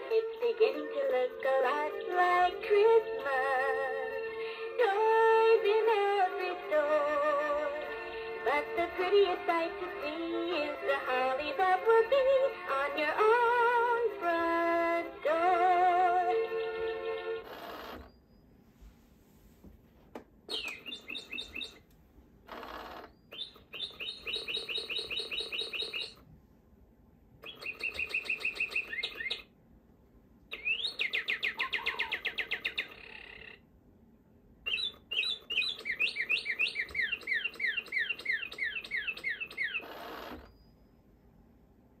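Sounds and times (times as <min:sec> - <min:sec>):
recorded birdsong from toy speaker: 0:00.0 - 0:15.8, 0:16.4 - 0:18.6, 0:20.5 - 0:21.8, 0:22.5 - 0:26.3, 0:27.4 - 0:29.6, 0:30.5 - 0:33.7, 0:34.6 - 0:41.0.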